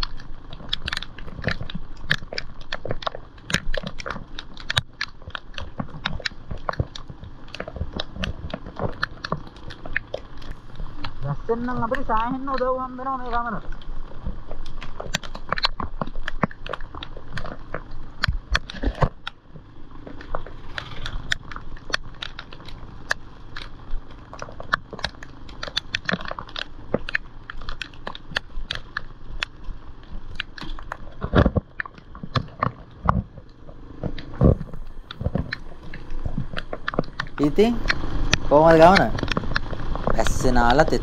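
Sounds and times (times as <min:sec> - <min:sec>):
motorcycle engine rumble: 0:00.0 - 0:41.0
raindrops tapping camera housing: 0:00.0 - 0:41.0
wind: 0:00.0 - 0:41.0.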